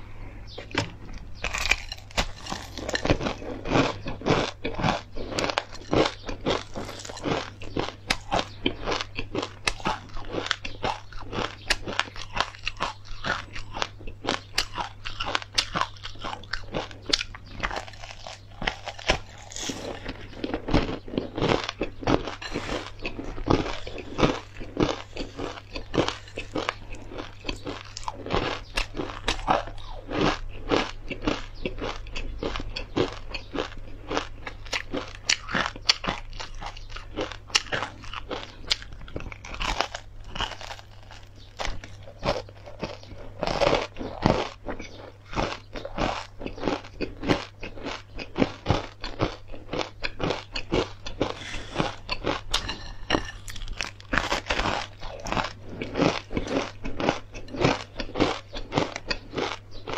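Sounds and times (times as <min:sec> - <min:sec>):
crunchy chewing: 0:00.1 - 0:59.9.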